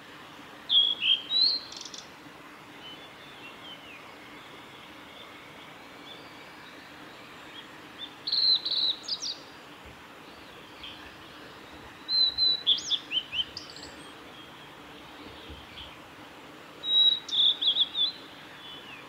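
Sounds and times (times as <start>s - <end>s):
flycatcher singing: 0.7s - 2.1s, 2.7s - 16.1s, 16.8s - 19.0s.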